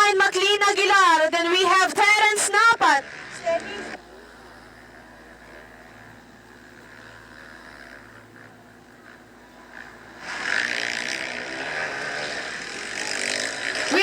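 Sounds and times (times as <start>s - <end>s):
distant motorbike engines droning: 0.0s - 14.0s
dirt bike engine revving close: 1.1s - 14.0s.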